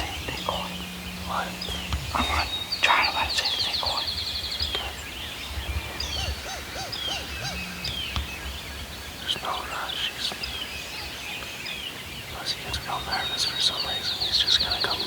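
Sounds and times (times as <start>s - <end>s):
songbirds trilling: 0.0s - 15.0s.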